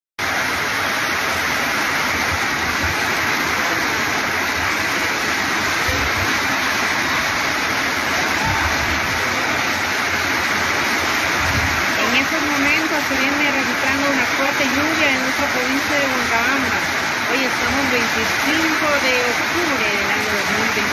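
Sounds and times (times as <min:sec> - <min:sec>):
torrential rain hissing: 0:00.2 - 0:20.9.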